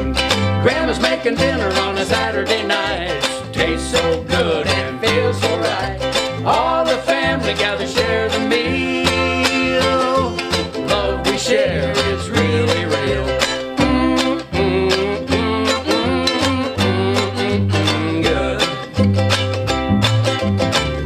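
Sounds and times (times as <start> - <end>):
double bass plucked: 0.0 - 21.0
small string instrument strummed: 0.0 - 21.0.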